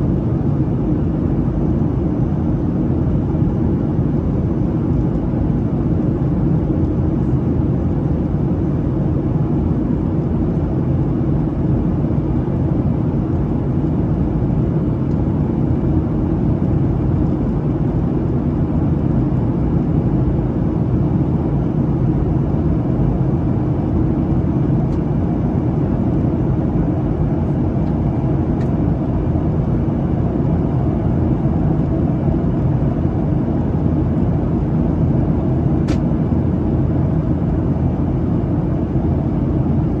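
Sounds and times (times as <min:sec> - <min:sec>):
airliner cabin engine rumble: 0:00.0 - 0:40.0.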